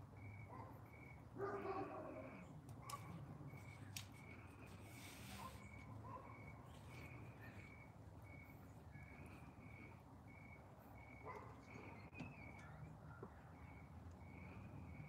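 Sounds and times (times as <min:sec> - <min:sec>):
faint high chirps: 0:00.1 - 0:15.0.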